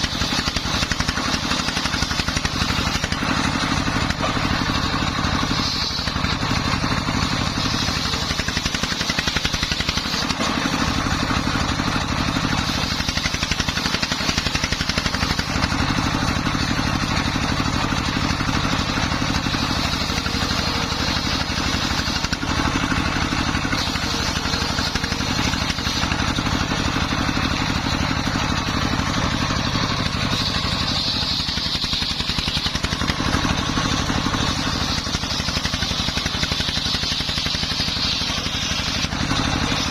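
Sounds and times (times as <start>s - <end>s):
circular saw noise: 0.0s - 39.9s
diesel engine running under load: 0.0s - 39.9s.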